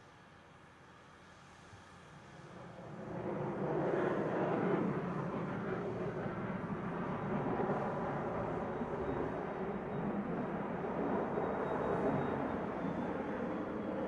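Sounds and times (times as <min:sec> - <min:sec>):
jet engine roar: 0:02.2 - 0:14.0.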